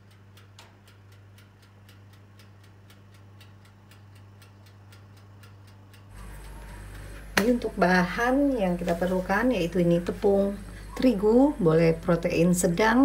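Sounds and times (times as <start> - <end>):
low steady hum: 0.0 - 13.0
steady even ticking: 0.0 - 13.0.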